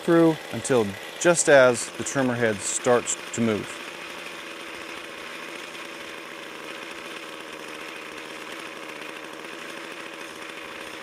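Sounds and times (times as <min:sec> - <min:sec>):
string trimmer engine idling: 0:00.0 - 0:11.0.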